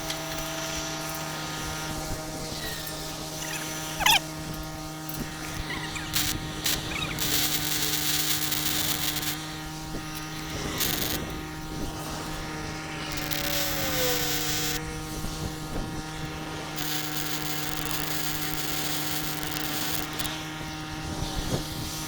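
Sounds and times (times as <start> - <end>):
machine hum: 0.0 - 20.4
welding hiss: 0.0 - 22.0.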